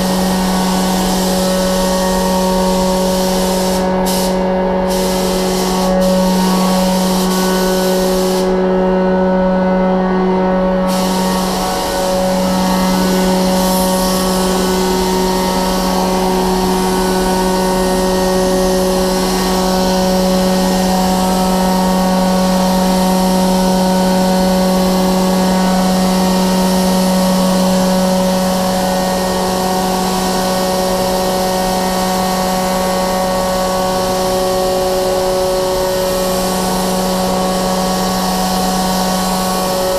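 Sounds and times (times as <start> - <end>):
paint spray gun hissing: 0.0 - 8.6, 10.9 - 39.9
ventilation fan hum: 0.0 - 39.9.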